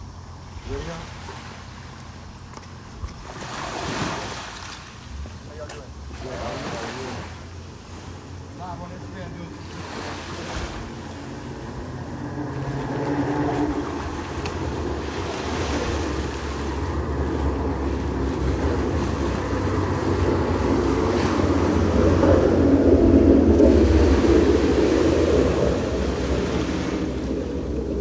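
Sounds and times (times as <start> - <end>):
ocean surf on beach: 0.0 - 28.0
wind rumbling on microphone: 0.0 - 28.0.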